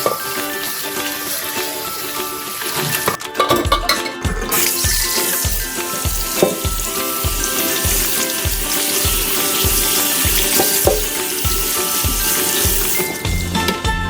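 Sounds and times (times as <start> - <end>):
food sizzling in frying: 0.0 - 13.8
background music with beat: 0.0 - 14.0.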